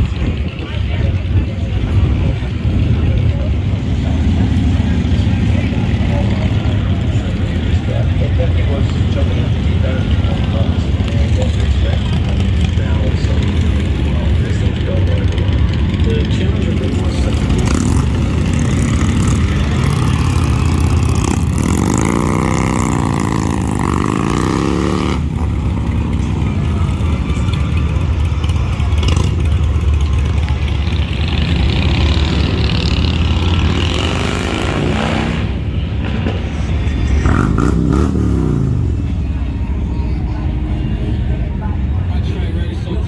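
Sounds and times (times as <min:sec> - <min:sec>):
motorcycle engine revving: 0:00.0 - 0:43.0
motorcycle engines rumbling: 0:00.0 - 0:43.0.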